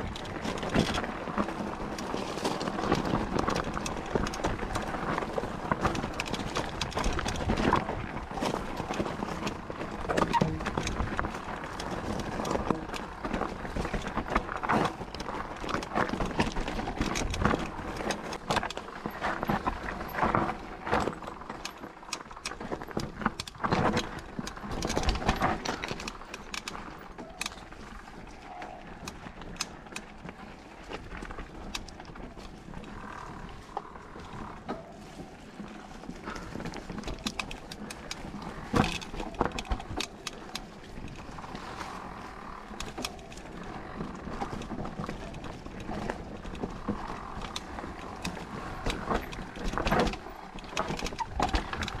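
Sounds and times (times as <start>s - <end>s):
wind noise: 0.0s - 21.7s, 22.4s - 52.0s
bike chain and frame rattling: 0.0s - 52.0s
tyre noise: 0.0s - 52.0s.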